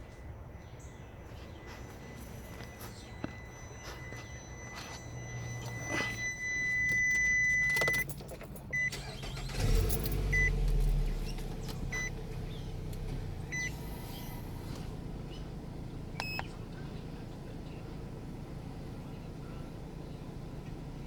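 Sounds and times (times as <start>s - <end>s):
car engine idling: 0.0s - 21.0s
car warning chime beeping: 0.0s - 21.0s
car engine cranking and starting: 1.5s - 21.0s.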